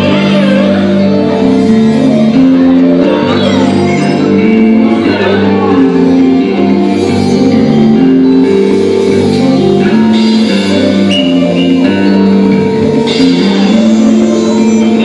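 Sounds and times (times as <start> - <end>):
experimental electronica with percussion: 0.0 - 15.0
pitched notes stepping up and down: 0.0 - 15.0.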